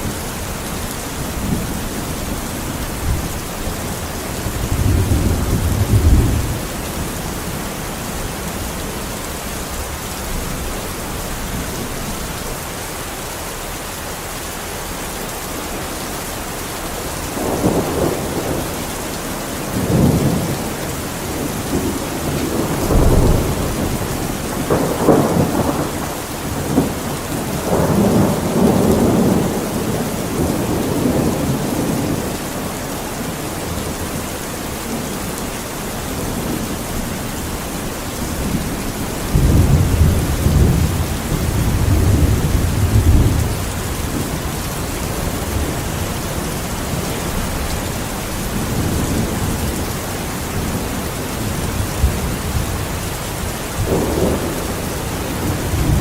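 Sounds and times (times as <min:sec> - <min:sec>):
thunder rumbling: 0:00.0 - 0:12.4, 0:16.9 - 0:56.0
steady rain: 0:00.0 - 0:56.0.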